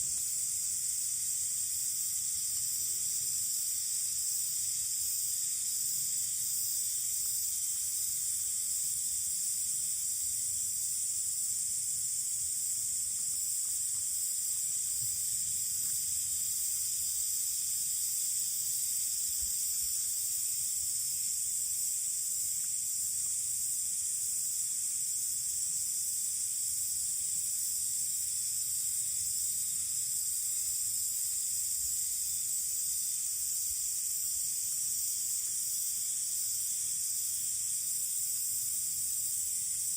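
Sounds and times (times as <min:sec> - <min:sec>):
cicadas chorus: 0:00.0 - 0:39.9.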